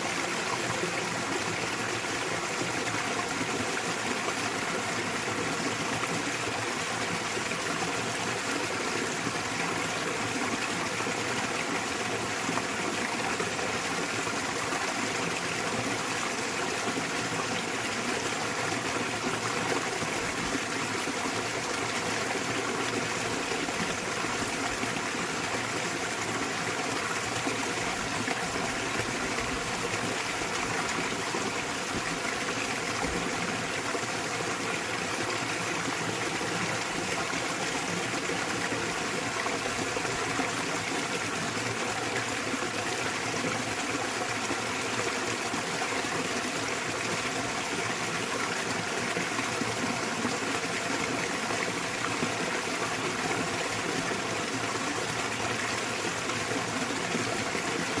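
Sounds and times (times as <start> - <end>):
waterfall pouring and splashing: 0.0 - 58.0.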